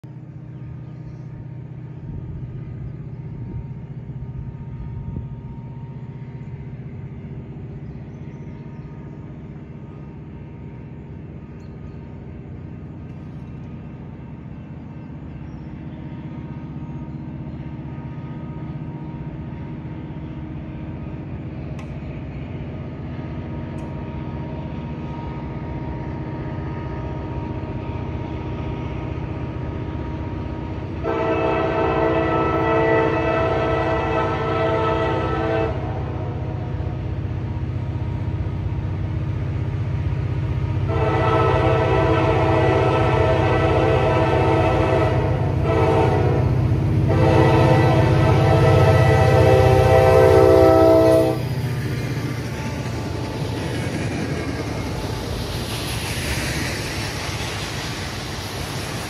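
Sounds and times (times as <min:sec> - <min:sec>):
diesel locomotive rumble: 0:00.0 - 0:59.0.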